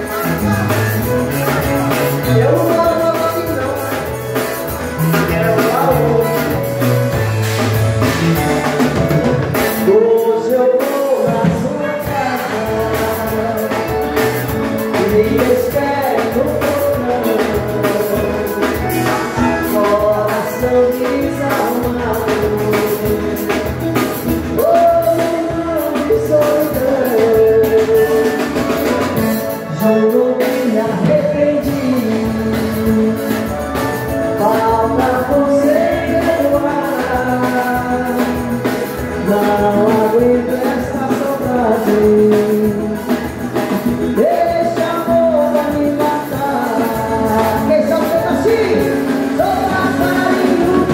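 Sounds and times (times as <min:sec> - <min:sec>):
drum kit beat: 0:00.0 - 0:50.9
live dance band playing: 0:00.0 - 0:50.9
woman singing: 0:02.2 - 0:04.1, 0:05.0 - 0:06.8, 0:09.6 - 0:50.9.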